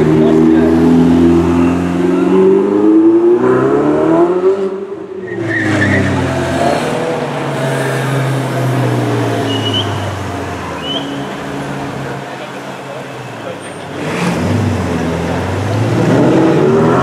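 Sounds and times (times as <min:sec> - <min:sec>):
cars driving slowly by: 0:00.0 - 0:03.5, 0:04.2 - 0:17.0
sports car engine revving: 0:00.0 - 0:17.0.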